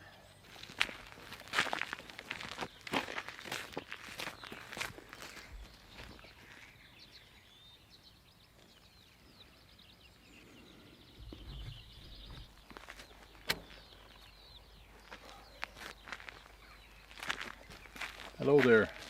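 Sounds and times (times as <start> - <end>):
songbirds twittering: 0.0 - 19.0.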